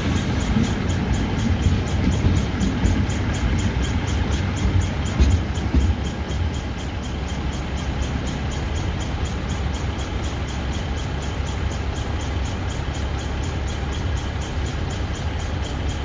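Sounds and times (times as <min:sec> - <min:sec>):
freight train rumbling past: 0:00.0 - 0:16.0
insects chirping: 0:00.0 - 0:16.0.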